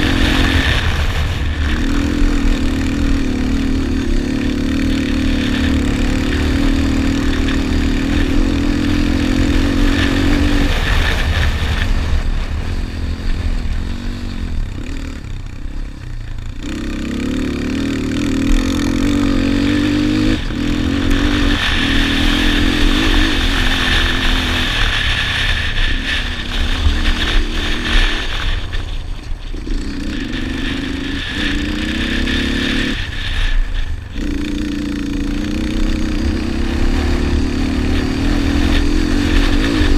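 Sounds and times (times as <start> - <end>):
quad engine revving: 0.0 - 39.9
wind rumble on microphone: 0.0 - 39.9.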